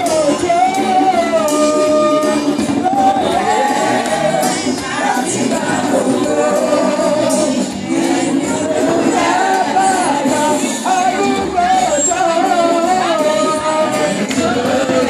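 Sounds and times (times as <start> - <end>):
person singing through microphone: 0.0 - 15.0
sharp percussion strikes: 0.0 - 15.0.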